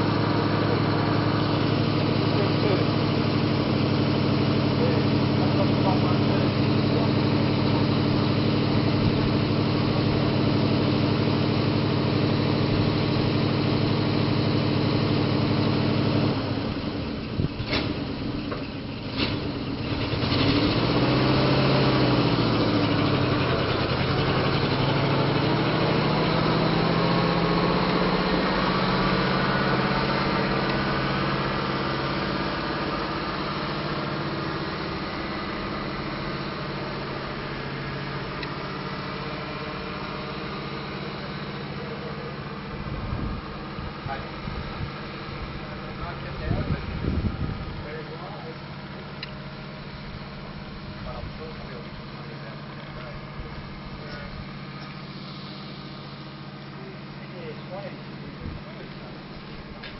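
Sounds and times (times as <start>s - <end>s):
petrol engine idling and revving: 0.0s - 59.9s.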